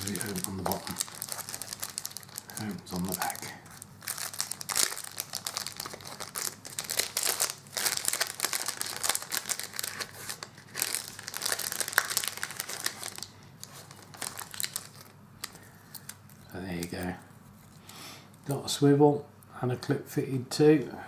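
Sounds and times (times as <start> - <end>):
plastic tearing: 0.0 - 17.0
plastic packet crinkling: 0.0 - 17.1.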